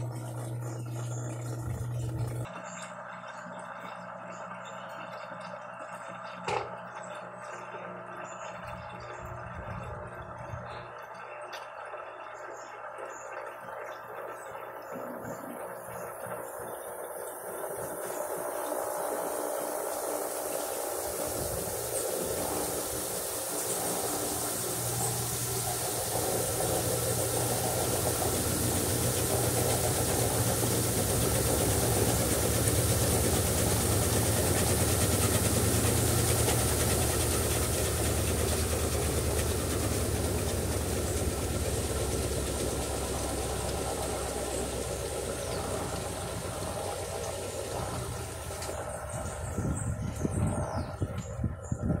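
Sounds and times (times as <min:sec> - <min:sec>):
washing machine running: 0:00.0 - 0:52.0.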